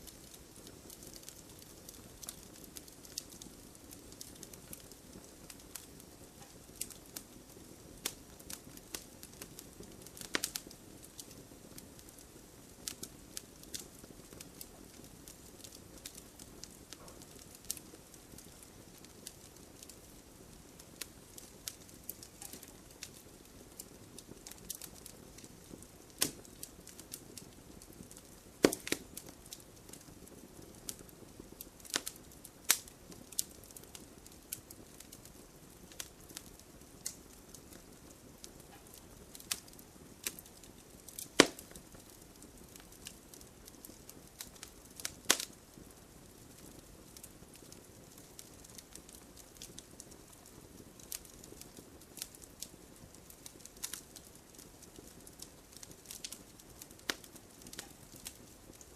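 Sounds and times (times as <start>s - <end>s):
flames hissing: 0.0s - 52.6s
campfire crackling and popping: 0.0s - 58.9s.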